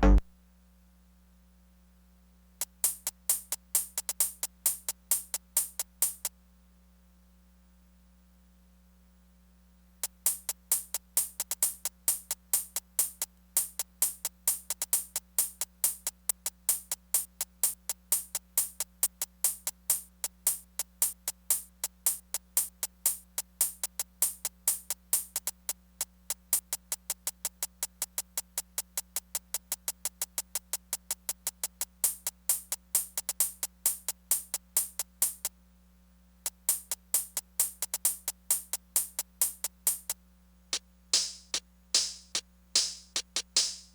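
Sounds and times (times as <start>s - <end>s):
drum machine high ticks: 0.0s - 0.2s, 2.6s - 6.3s, 10.0s - 35.6s, 36.4s - 40.2s, 40.8s - 43.9s.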